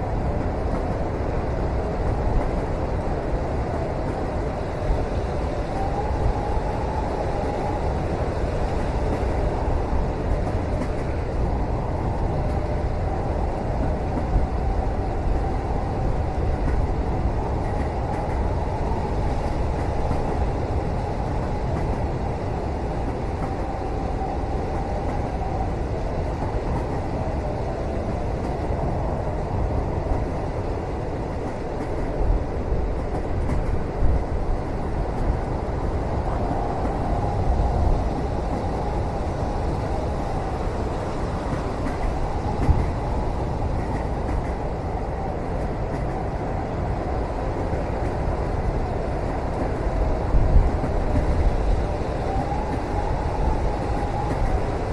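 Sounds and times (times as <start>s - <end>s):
train rumbling: 0.0s - 54.9s.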